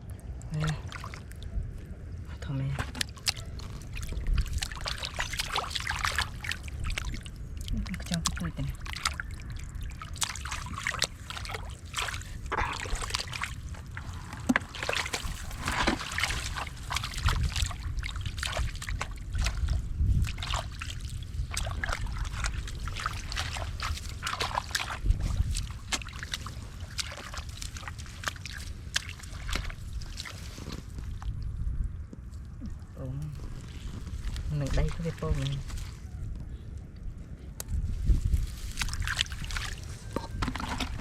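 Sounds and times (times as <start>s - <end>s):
muddy water sloshing and splashing: 0.0s - 41.0s.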